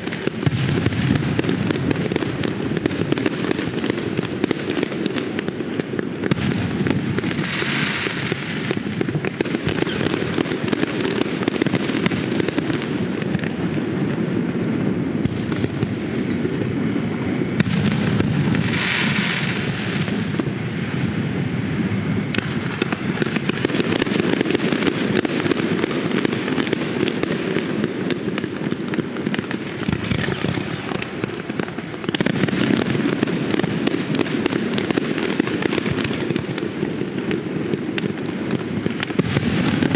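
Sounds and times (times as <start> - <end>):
fireworks bangs and pops: 0.0 - 39.9
hissing crackle of fireworks: 0.0 - 39.9.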